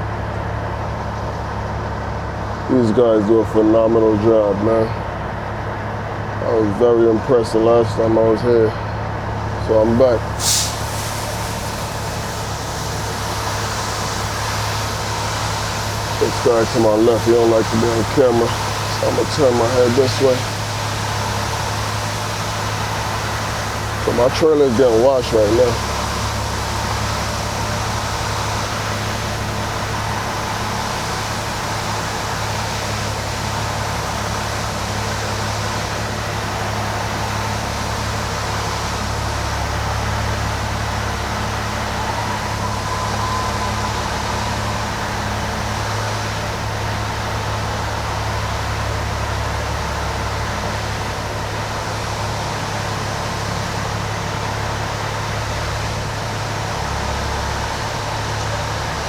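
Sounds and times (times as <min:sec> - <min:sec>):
diesel truck idling: 0:00.0 - 0:59.0.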